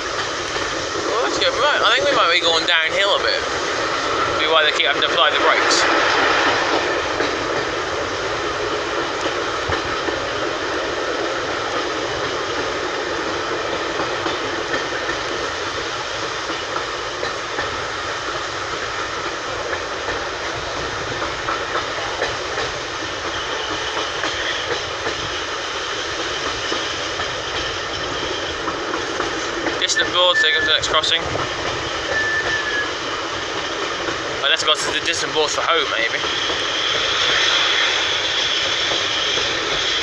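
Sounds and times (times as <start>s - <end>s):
train carriage rolling on rails: 0.0s - 40.0s.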